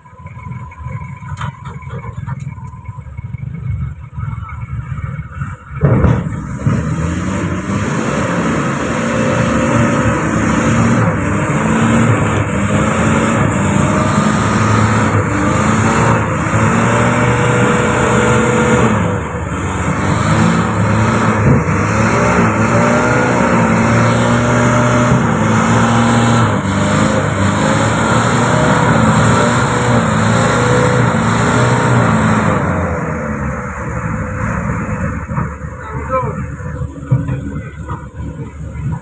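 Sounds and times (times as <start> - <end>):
truck engine running under load: 0.0 - 39.0.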